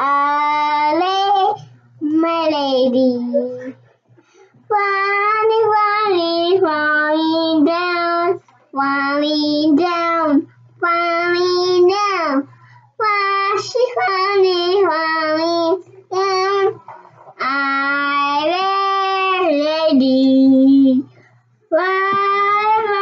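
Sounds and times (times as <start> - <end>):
girl singing: 0.0 - 3.8, 4.7 - 16.8, 17.4 - 21.1, 21.7 - 23.0.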